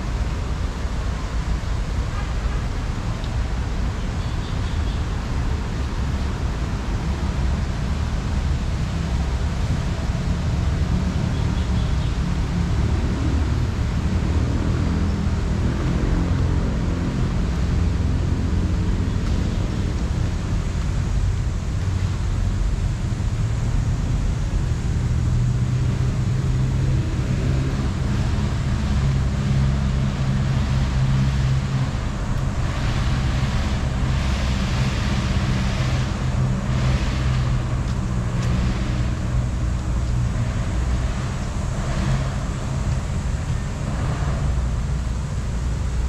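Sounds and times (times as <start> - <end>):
traffic engine hum: 0.0 - 46.0
vehicles passing: 0.0 - 46.0.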